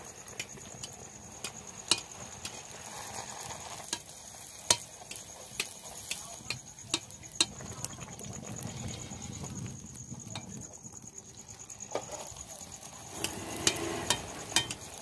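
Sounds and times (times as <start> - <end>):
frying in hot oil: 0.0 - 15.0.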